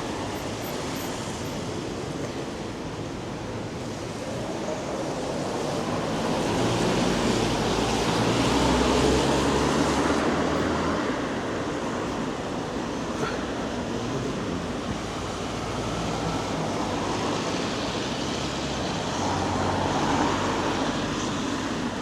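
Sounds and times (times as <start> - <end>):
tyres hissing on wet road: 0.0 - 22.0.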